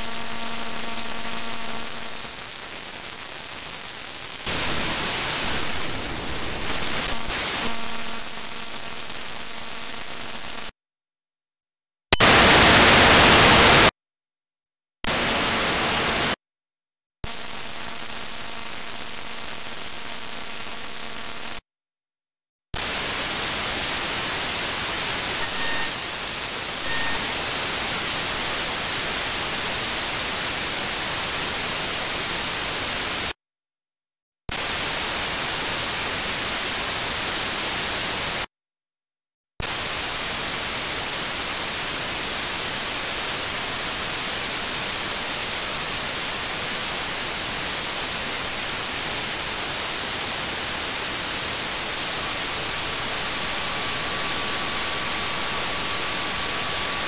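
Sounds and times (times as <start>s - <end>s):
radio static hiss: 0.0s - 10.7s, 12.2s - 13.9s, 15.1s - 16.4s, 17.3s - 21.6s, 22.8s - 33.3s, 39.6s - 57.0s.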